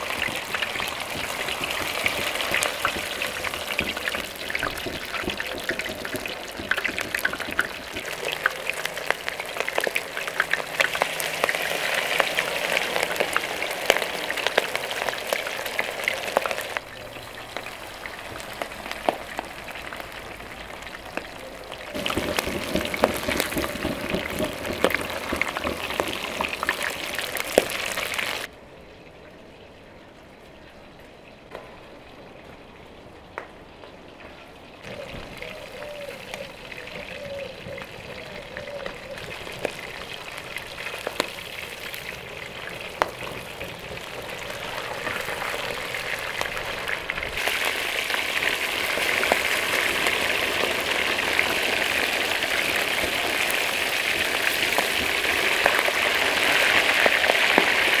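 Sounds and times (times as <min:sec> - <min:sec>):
fish sizzling in hot oil: 0:00.0 - 0:28.5, 0:34.9 - 0:58.0.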